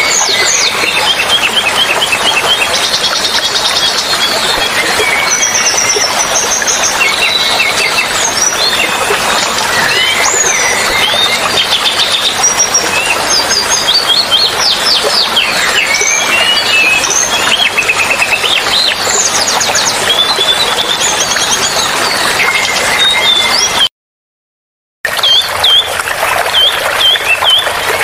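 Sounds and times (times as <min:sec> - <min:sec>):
running water: 0:00.0 - 0:23.9, 0:25.1 - 0:28.0.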